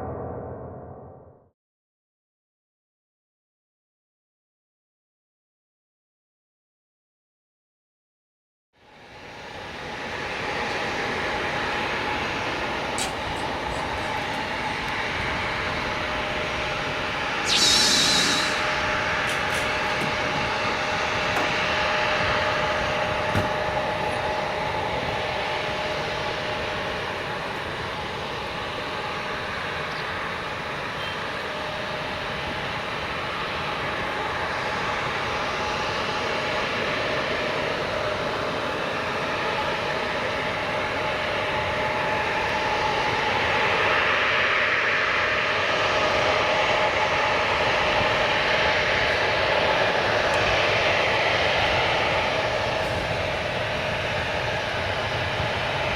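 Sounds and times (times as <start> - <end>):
jet engines running: 8.9 - 55.9.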